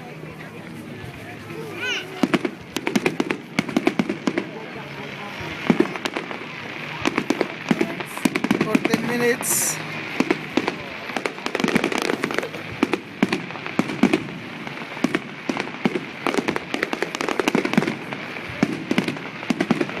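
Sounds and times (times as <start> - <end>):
fireworks bangs and crackles: 0.0 - 20.0
steady background hiss: 0.0 - 20.0.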